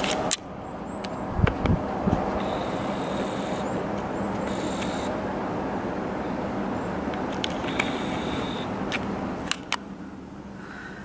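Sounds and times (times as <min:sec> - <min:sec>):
distant city traffic hum: 0:00.0 - 0:11.0.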